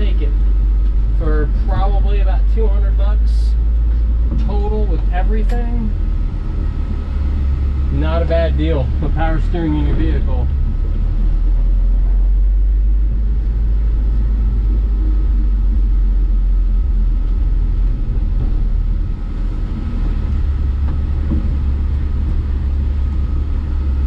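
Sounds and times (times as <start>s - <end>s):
pickup engine and road noise: 0.0s - 24.0s.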